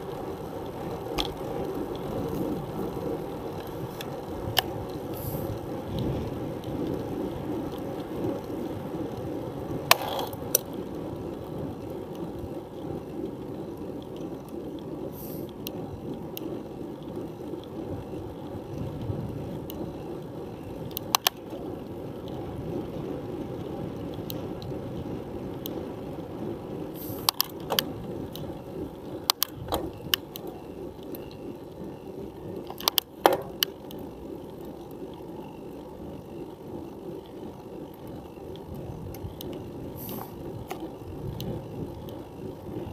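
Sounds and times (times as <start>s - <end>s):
bicycle clicks and rattles: 0.0s - 42.9s
bicycle tyres and drivetrain rumble: 0.0s - 42.9s.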